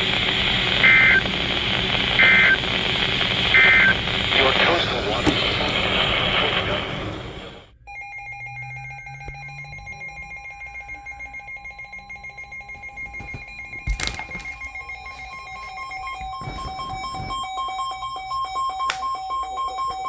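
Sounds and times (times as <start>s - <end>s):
emergency alert tones: 0.0s - 20.0s.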